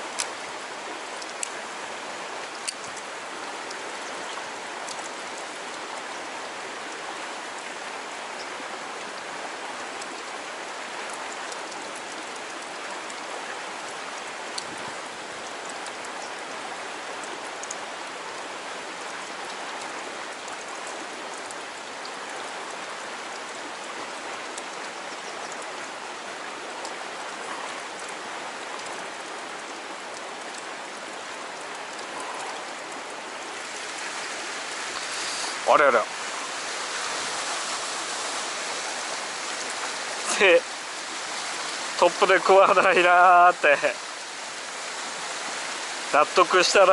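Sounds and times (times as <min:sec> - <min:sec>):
stream water rushing over rocks: 0:00.0 - 0:46.9.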